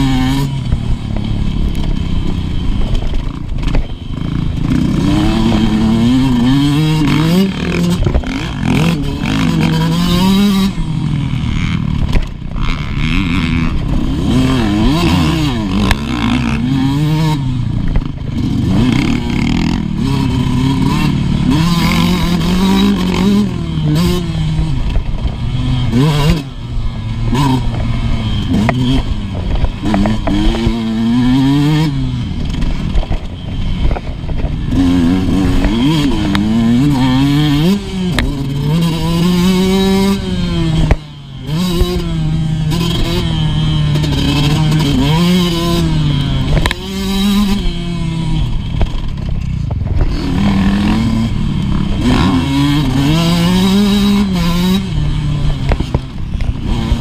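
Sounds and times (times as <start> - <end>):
dirt bike engine revving: 0.0 - 57.0
wind noise: 0.0 - 57.0.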